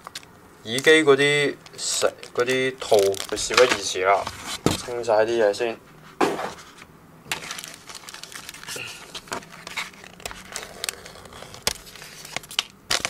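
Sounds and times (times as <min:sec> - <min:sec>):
plastic bag crinkling: 0:00.0 - 0:05.0, 0:07.3 - 0:13.0.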